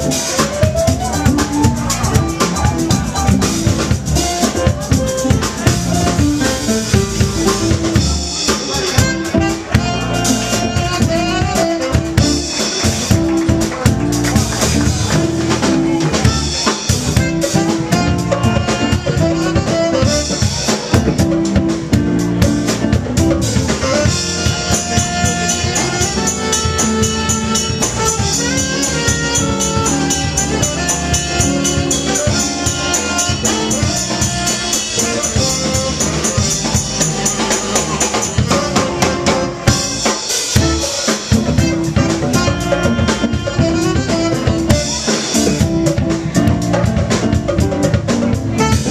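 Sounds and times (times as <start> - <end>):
drum kit: 0.0 - 48.9
live band playing: 0.0 - 48.9.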